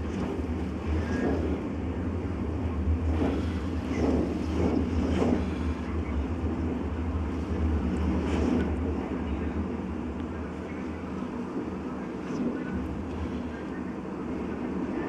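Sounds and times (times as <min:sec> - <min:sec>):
blizzard wind gusting: 0:00.0 - 0:15.0.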